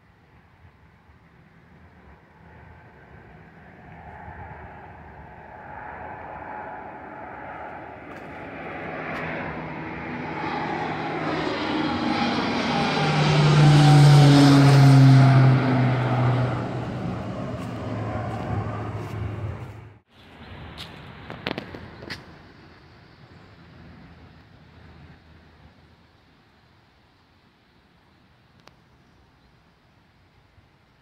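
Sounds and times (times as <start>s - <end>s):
propeller airplane droning overhead: 0.0s - 31.0s.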